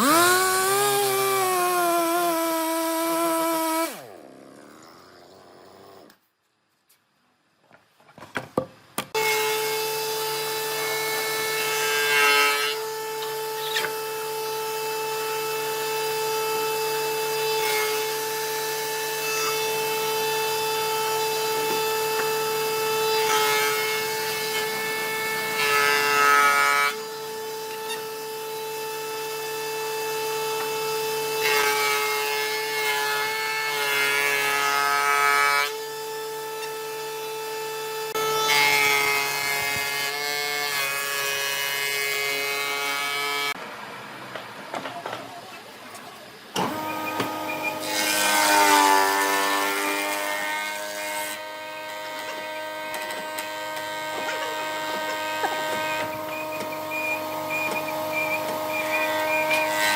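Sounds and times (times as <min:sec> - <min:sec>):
power tool cutting wood: 0:00.0 - 0:05.2, 0:09.1 - 0:43.6, 0:46.5 - 0:59.9.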